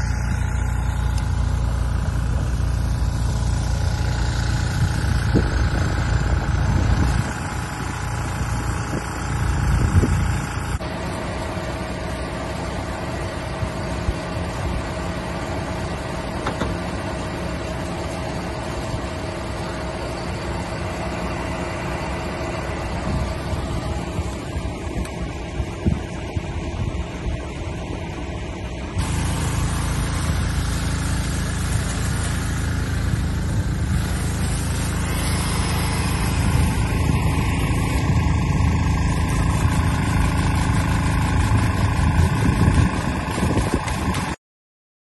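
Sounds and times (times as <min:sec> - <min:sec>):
fire engine engine rumbling: 0:00.0 - 0:44.4.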